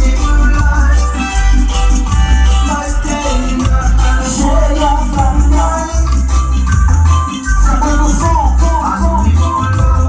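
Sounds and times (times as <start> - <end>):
loud music with pulsing bass: 0.0 - 10.0.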